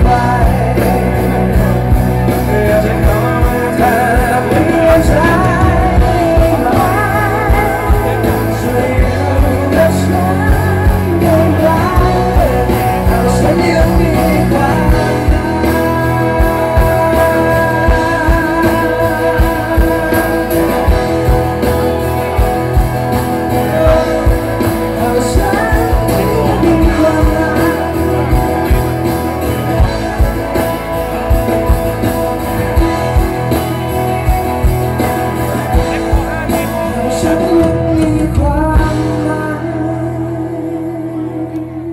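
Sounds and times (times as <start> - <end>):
steady drum beat: 0.0 - 39.6
acoustic and electric guitars: 0.0 - 41.9
man singing amplified: 0.0 - 41.9.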